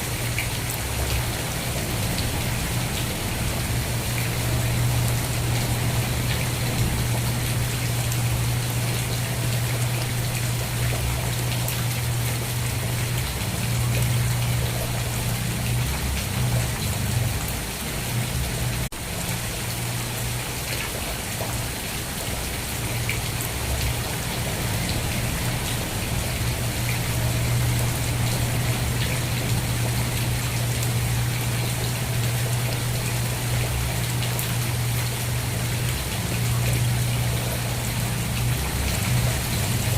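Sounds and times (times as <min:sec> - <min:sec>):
continuous low hum: 0:00.0 - 0:39.9
steady rain falling: 0:00.0 - 0:39.9.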